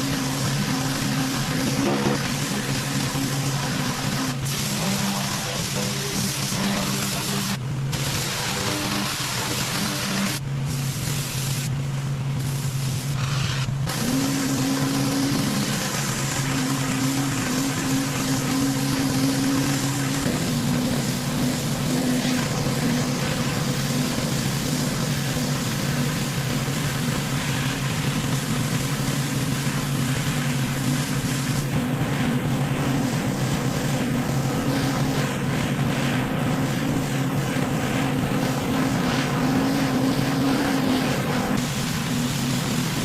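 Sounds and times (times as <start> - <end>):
high-pressure water spray hiss: 0.0 - 11.8, 12.4 - 43.0
pressure washer engine hum: 0.0 - 43.0.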